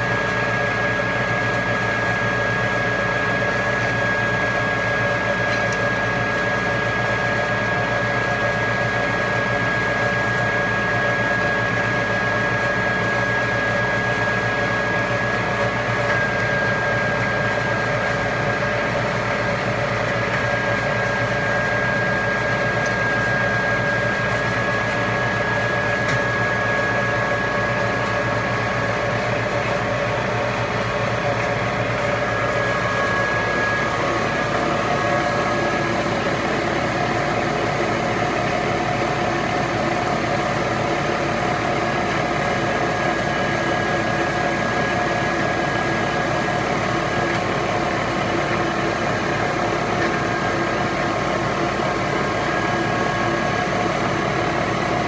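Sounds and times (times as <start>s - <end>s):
milling machine hum and whine: 0.0s - 55.0s.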